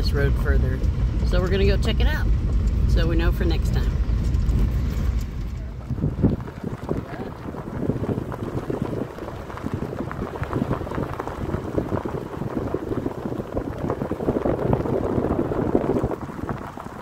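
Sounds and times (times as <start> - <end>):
tyres crunching on gravel: 0.0 - 17.0.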